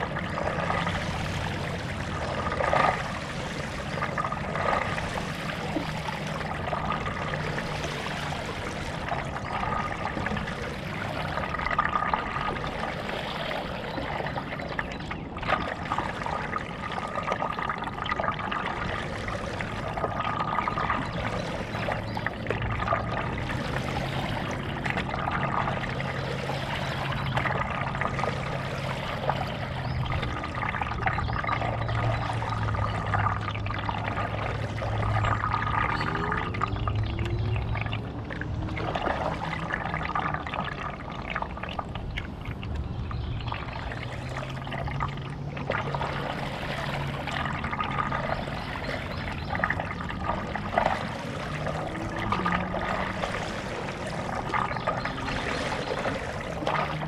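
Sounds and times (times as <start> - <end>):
low steady hum: 0.0 - 57.0
paddle dipping in water: 0.0 - 57.0
water dripping off paddle: 0.0 - 57.0.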